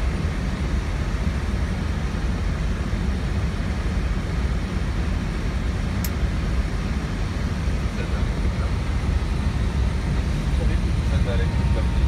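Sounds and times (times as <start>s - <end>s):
cockpit airflow and engine rumble: 0.0s - 12.0s.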